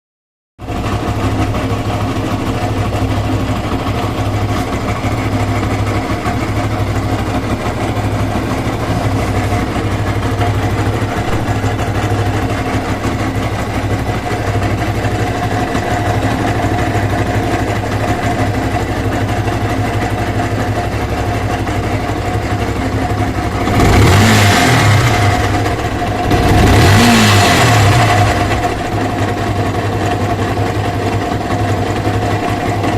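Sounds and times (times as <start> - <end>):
motorcycle engine idling: 0.6 - 32.9
motorcycle engine revving: 0.6 - 32.9.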